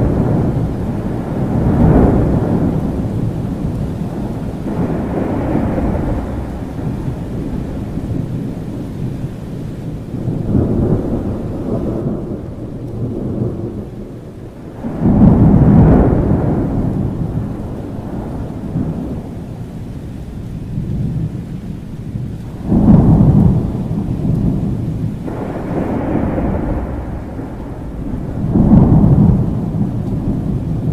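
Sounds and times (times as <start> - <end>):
rolling thunder: 0.0 - 30.9
steady rain: 0.0 - 30.9.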